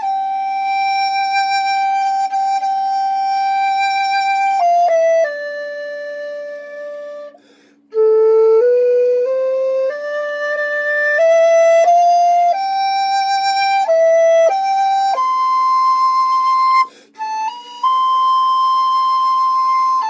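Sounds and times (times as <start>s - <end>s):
slow flute-like melody: 0.0s - 20.0s.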